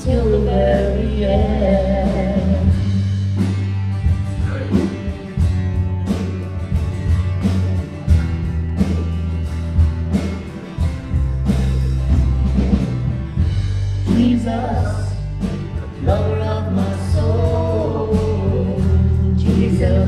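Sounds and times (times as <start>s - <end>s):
drums steady beat: 0.0s - 20.0s
electric bass guitar: 0.0s - 20.0s
guitar: 0.0s - 20.0s.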